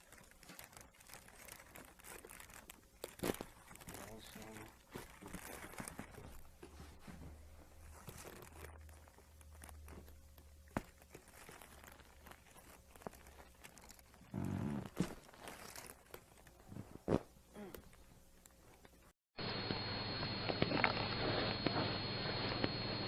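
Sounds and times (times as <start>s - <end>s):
rustling on a treatment table: 0.0s - 19.1s.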